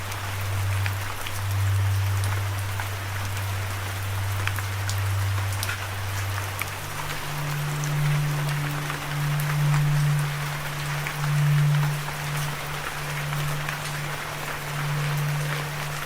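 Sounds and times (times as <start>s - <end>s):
low sustained drone: 0.0s - 16.0s
steady rain: 0.0s - 16.0s.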